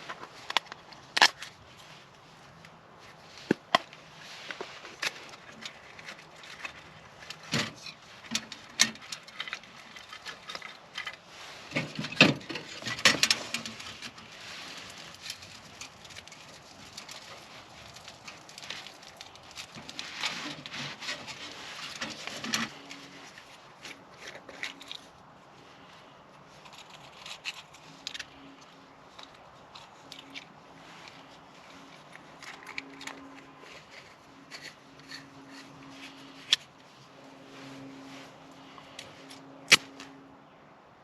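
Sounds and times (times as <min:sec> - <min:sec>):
faint rustling: 0:00.0 - 0:40.2.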